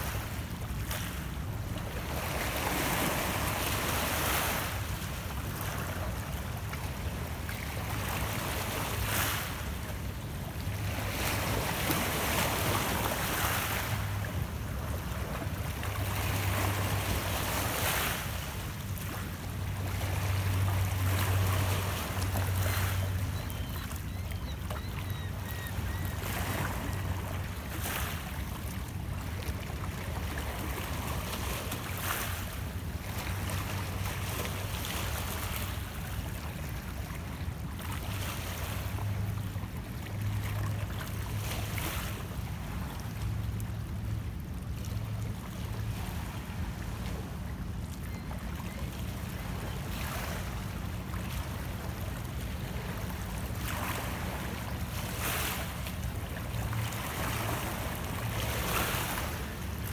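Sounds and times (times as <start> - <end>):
waves lapping against rocks: 0.0 - 9.7, 10.7 - 39.1, 39.8 - 59.9.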